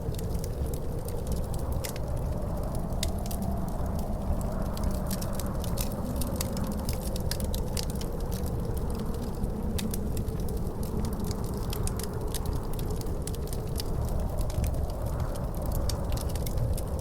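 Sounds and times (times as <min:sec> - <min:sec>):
low roar of wind: 0:00.0 - 0:17.0
wood fire crackling and popping: 0:00.0 - 0:17.0.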